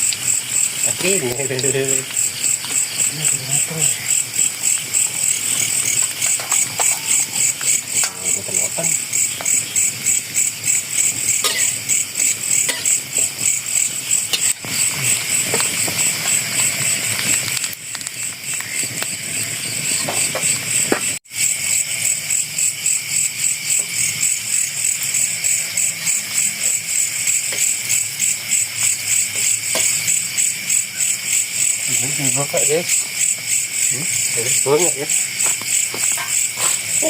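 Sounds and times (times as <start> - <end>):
crickets chirping: 0.0 - 37.0
low hum of insects: 0.0 - 37.0.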